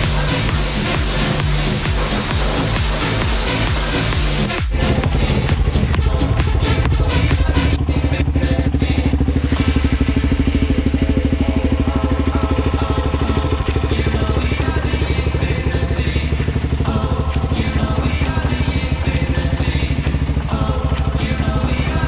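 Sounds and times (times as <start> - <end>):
quad bike engine running: 0.0 - 22.0.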